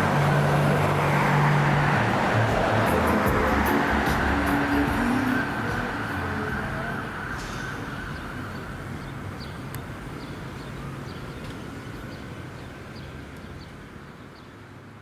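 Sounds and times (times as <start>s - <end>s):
fire engine motor and road noise: 0.0s - 15.0s.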